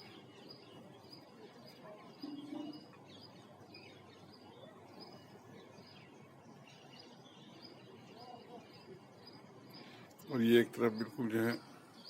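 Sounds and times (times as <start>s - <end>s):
birds chirping softly: 0.0s - 12.0s.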